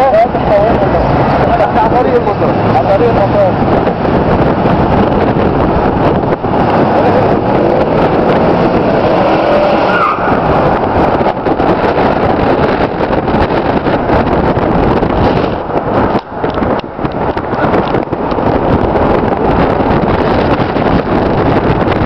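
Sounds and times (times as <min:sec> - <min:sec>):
car engines and tyre noise: 0:00.0 - 0:22.0.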